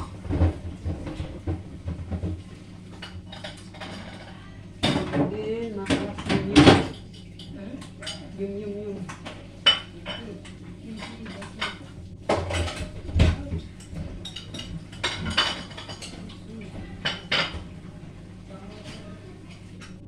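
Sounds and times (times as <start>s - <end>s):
dishes and cutlery clinking: 0.0s - 8.4s, 9.0s - 17.8s
low steady hum: 0.0s - 20.0s.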